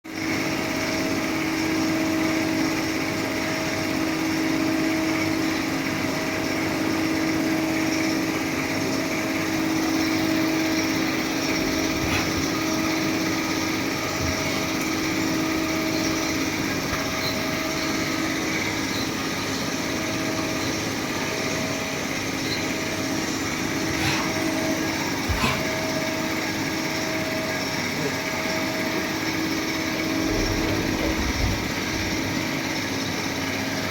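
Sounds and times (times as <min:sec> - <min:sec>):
machine hum with whine: 0:00.1 - 0:33.9.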